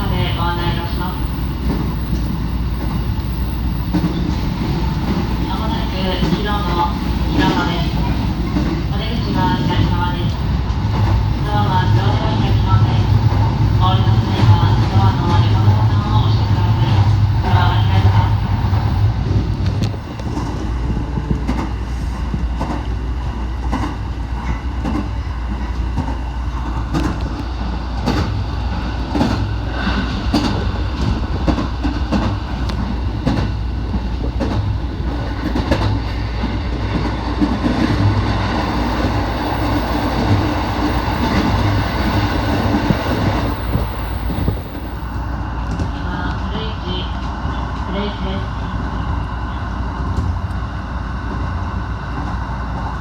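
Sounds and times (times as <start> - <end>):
train interior rumble: 0.0 - 53.0.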